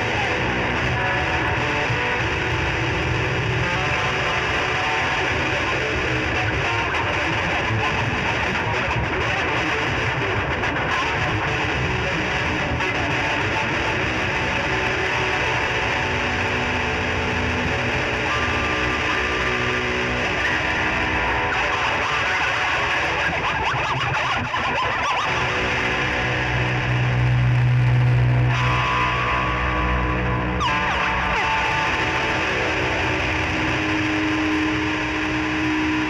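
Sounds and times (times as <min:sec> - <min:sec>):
distorted electric guitar noise: 0:00.0 - 0:36.0.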